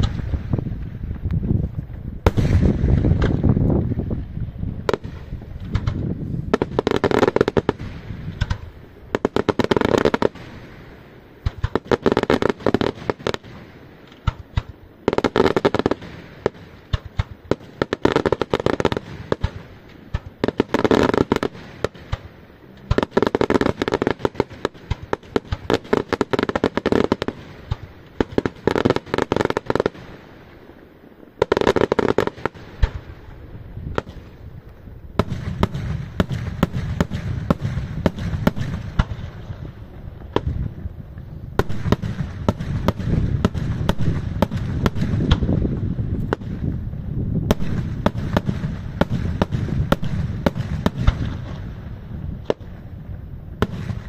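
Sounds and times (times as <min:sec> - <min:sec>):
deep fireworks rumble: 0:00.0 - 0:54.0
fireworks bursting with sharp bangs: 0:00.0 - 0:54.0.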